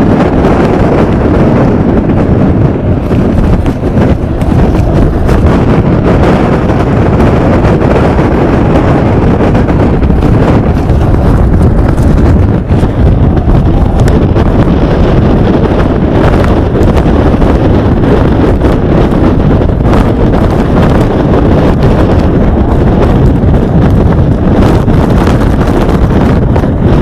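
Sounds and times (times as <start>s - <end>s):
strong wind on microphone: 0.0s - 27.0s
tornado roaring: 0.0s - 27.0s.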